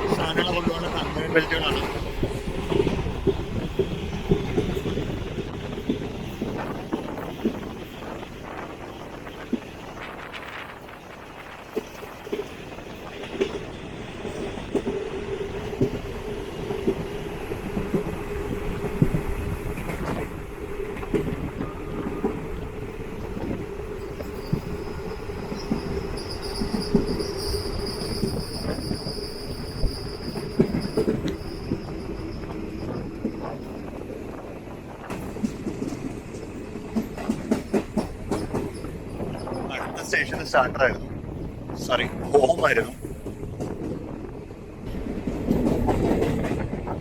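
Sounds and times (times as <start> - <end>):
train hum: 0.0 - 47.0.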